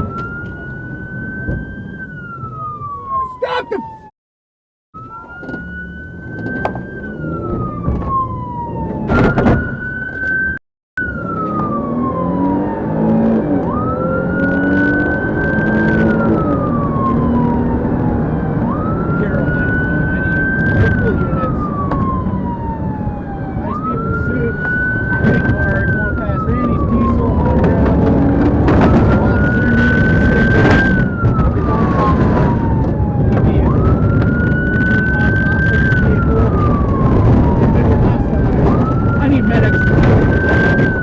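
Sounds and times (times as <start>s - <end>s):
police siren wailing: 0.0s - 4.1s, 5.0s - 41.0s
vehicle rumble: 5.0s - 41.0s.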